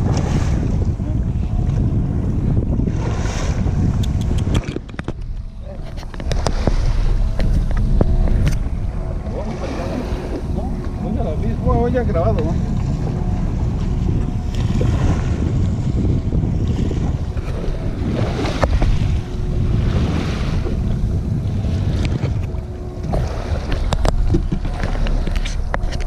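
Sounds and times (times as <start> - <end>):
boat motor rumble: 0.0 - 26.0
water splashing past hull: 0.0 - 26.0
wind buffeting microphone: 0.0 - 26.0.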